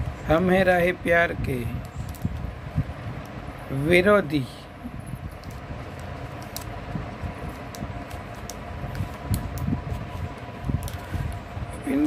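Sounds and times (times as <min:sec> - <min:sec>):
fan-like hum: 0:00.0 - 0:12.0.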